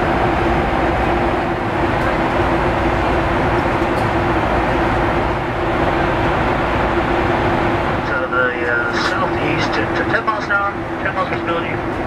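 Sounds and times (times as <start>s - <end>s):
airliner cabin engine and airflow rush: 0.0s - 12.0s
steady low hum: 0.0s - 12.0s.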